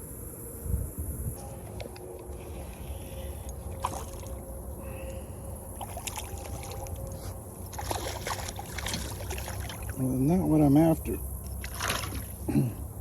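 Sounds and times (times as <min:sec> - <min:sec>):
water splashing and lapping: 0:01.6 - 0:10.6, 0:11.3 - 0:13.0.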